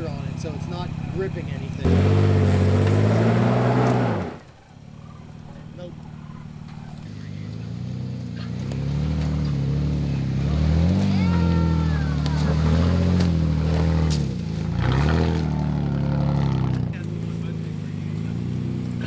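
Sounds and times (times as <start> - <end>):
truck engine at low speed: 0.0 - 19.0.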